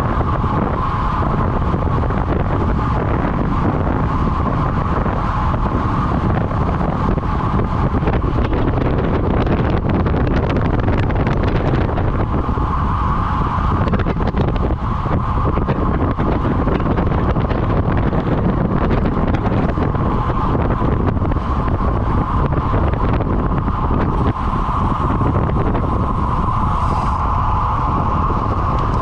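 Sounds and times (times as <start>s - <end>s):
tyre and road rumble: 0.0s - 29.0s
wind rushing on microphone: 0.0s - 29.0s.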